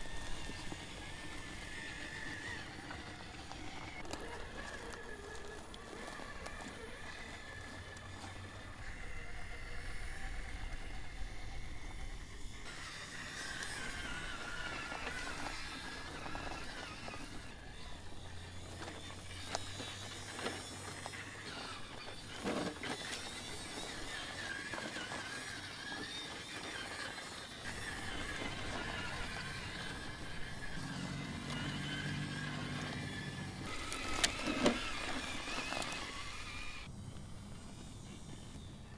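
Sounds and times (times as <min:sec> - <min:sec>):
rc truck motor whining: 0:00.0 - 0:38.9.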